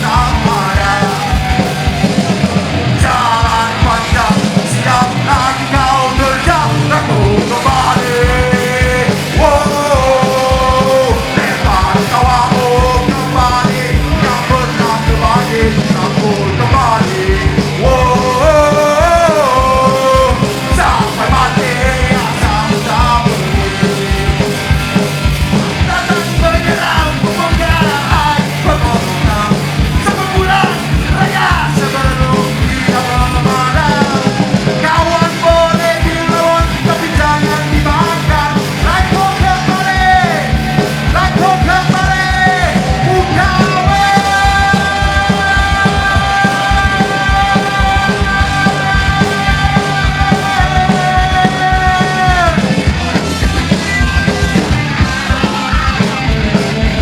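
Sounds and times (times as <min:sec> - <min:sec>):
distorted guitars: 0:00.0 - 0:57.0
fast driving drums: 0:00.0 - 0:57.0
punk rock band playing live: 0:00.0 - 0:57.0.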